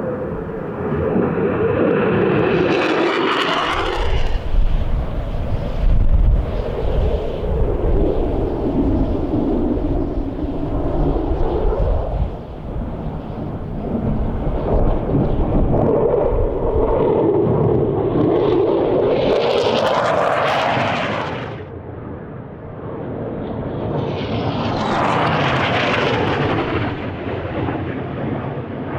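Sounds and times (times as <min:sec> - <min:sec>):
low-flying military aircraft passing: 0:00.0 - 0:28.9.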